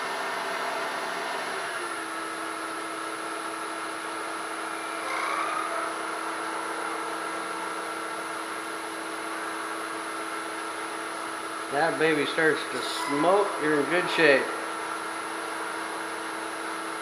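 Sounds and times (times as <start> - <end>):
wood lathe humming: 1.6 - 17.0
gliding whine: 3.2 - 17.0.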